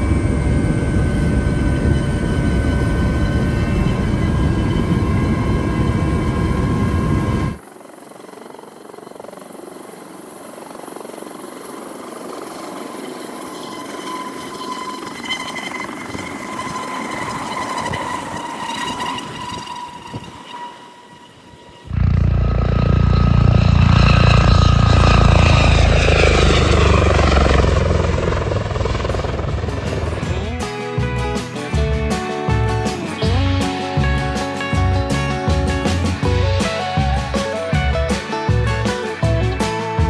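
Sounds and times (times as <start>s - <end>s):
helicopter hovering whine: 0.0s - 40.0s
helicopter rotor and turbine noise: 0.0s - 40.0s.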